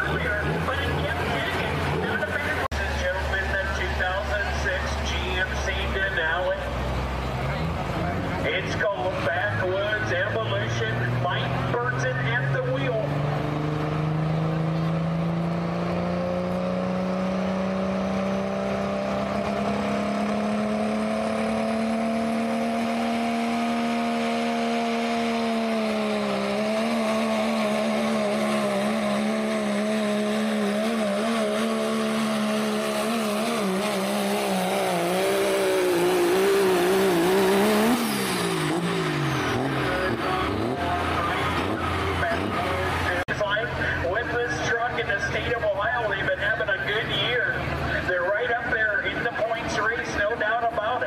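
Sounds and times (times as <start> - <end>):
diesel engine at full throttle: 0.0 - 51.0.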